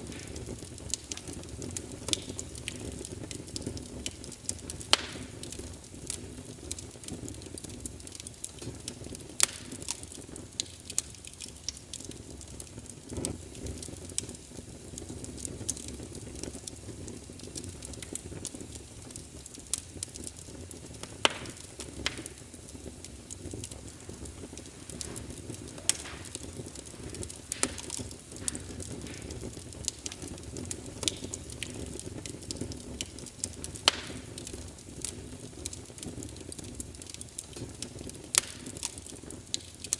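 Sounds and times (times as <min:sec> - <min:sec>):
fire crackling and popping: 0:00.0 - 0:39.9
fireplace flames rushing: 0:00.0 - 0:39.9.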